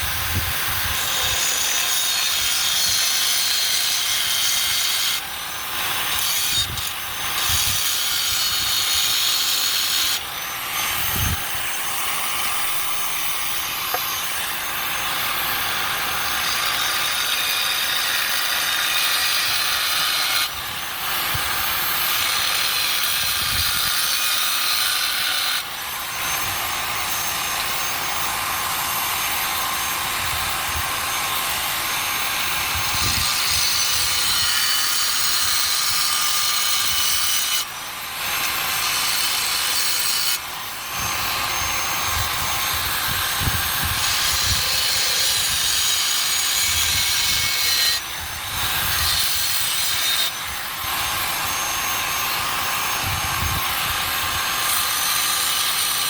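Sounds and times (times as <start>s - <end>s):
angle grinder cutting steel: 0.0s - 56.0s.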